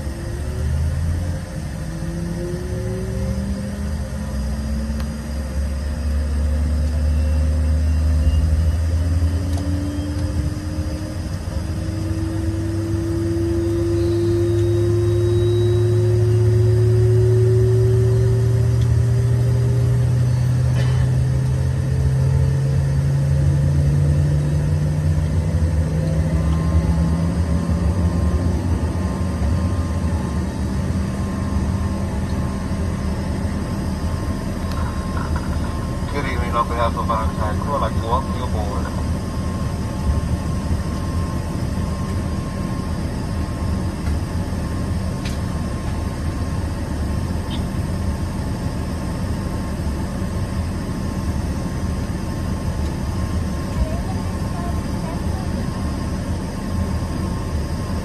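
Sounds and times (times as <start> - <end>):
steady rumble: 0.0 - 58.0.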